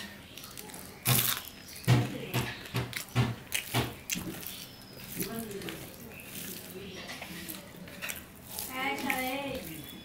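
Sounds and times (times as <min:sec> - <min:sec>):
loud crunchy chewing: 0:00.0 - 0:10.0.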